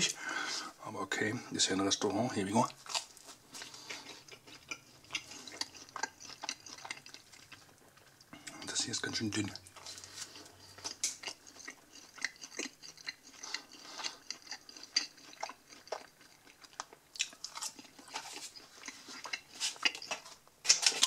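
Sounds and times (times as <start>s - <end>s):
person chewing crunchy food: 2.6s - 21.0s.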